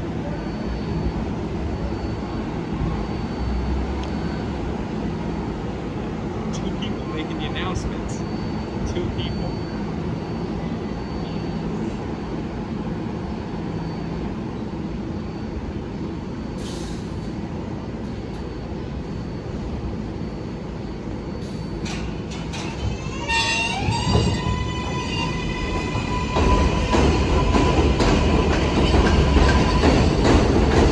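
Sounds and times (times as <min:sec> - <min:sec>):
subway train rumble: 0:00.0 - 0:30.9.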